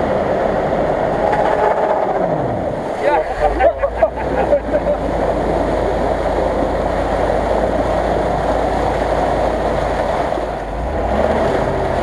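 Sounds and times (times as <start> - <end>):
engine running under load: 0.0 - 12.0
tyres churning mud: 0.0 - 12.0
water splashing: 0.0 - 12.0.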